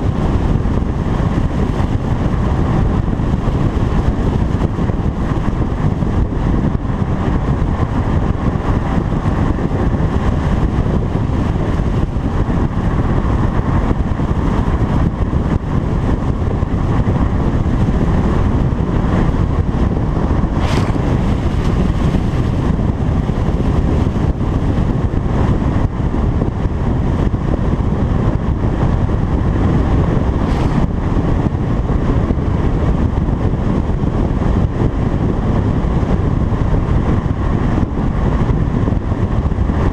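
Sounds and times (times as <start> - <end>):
road noise: 0.0 - 39.9
wind rushing: 0.0 - 39.9.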